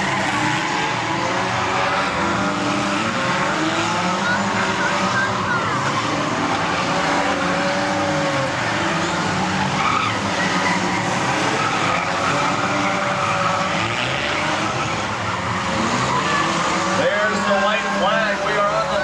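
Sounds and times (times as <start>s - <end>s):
race car engines: 0.0s - 19.0s
tyres squealing and skidding: 0.0s - 19.0s.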